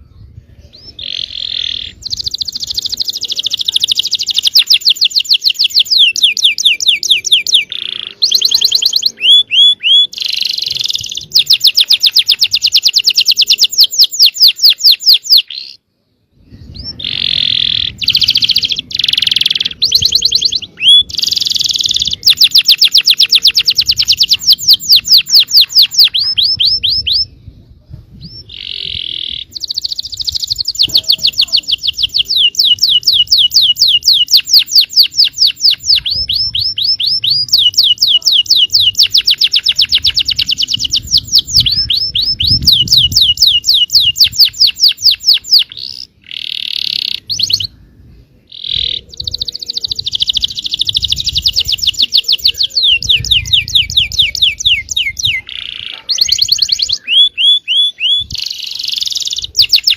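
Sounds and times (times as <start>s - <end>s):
canary singing rolling trills: 0.0s - 59.9s.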